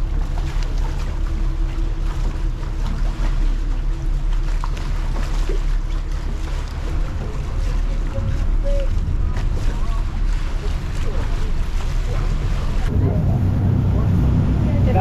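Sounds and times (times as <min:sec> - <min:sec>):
boat engine drone: 0:00.0 - 0:15.0
wind and water hiss: 0:00.0 - 0:15.0.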